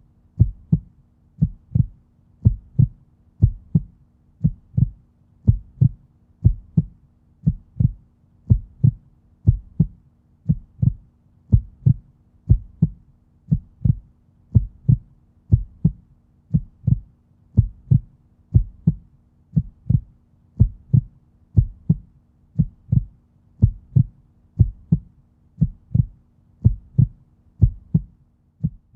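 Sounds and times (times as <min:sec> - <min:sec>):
heartbeat thuds: 0:00.4 - 0:28.9.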